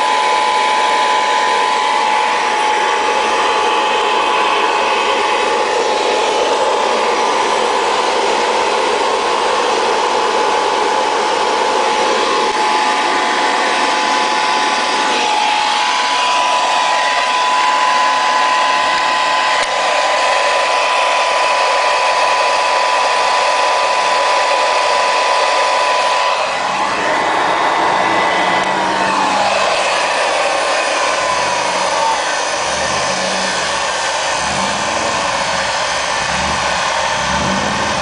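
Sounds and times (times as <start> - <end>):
upright vacuum cleaner running: 0.0 - 38.0.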